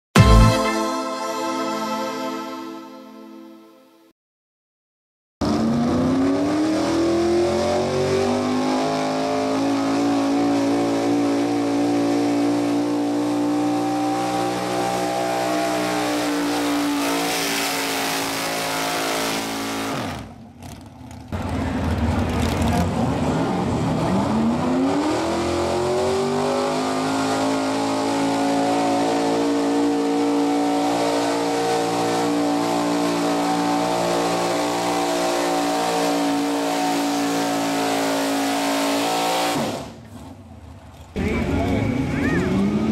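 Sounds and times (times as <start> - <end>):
truck engine revving hard: 5.4 - 40.5, 41.2 - 42.9.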